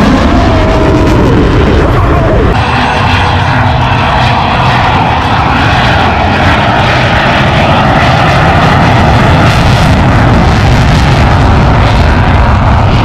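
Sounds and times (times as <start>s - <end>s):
airplane engine noise: 0.0s - 13.0s.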